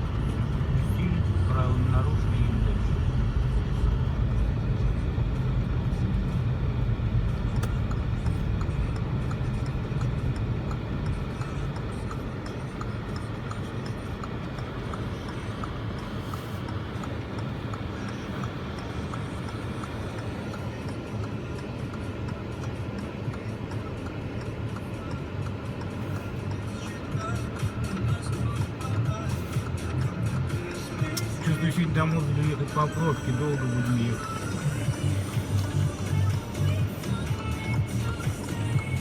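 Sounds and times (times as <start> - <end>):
car engine and tyres rumbling: 0.0 - 39.0
faint regular ticking: 0.1 - 38.9.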